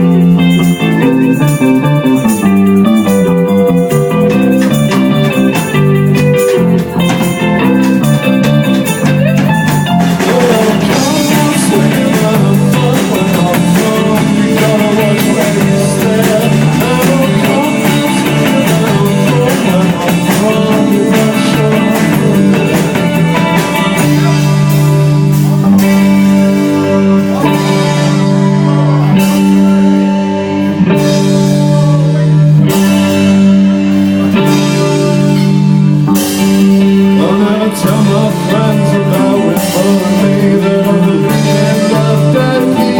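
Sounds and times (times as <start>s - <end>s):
live rock band playing: 0.0s - 42.9s
picked guitar line: 0.0s - 42.9s.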